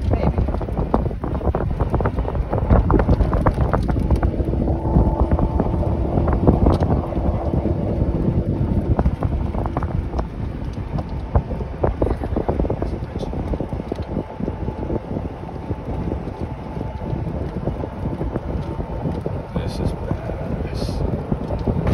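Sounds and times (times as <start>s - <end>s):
faint steady whine: 0.0s - 21.9s
golf cart rumble and rattles: 0.0s - 21.9s
wind buffeting microphone: 0.0s - 21.9s.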